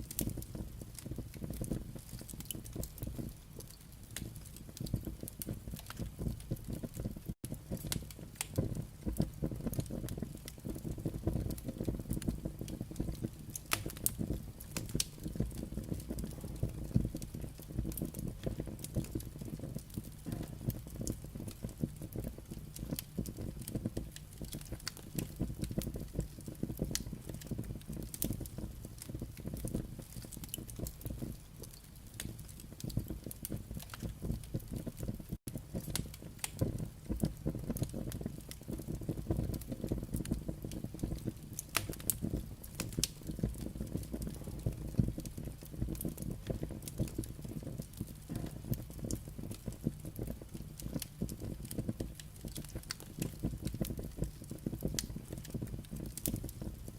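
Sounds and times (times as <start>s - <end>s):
firewood crackling and popping: 0.0s - 56.9s
low rumble of fire: 0.0s - 56.9s.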